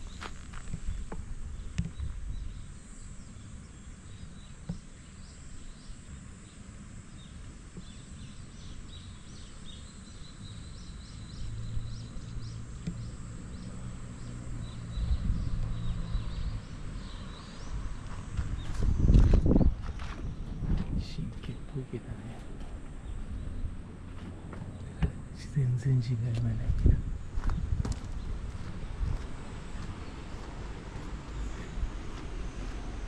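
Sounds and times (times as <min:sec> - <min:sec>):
low wind rumble: 0:00.0 - 0:09.6, 0:10.3 - 0:33.0
insects droning: 0:00.0 - 0:33.0
low hum: 0:00.0 - 0:33.0.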